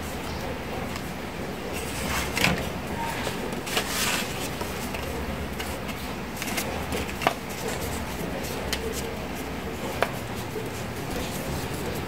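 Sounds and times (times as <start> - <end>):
paper rustling: 1.8 - 12.0.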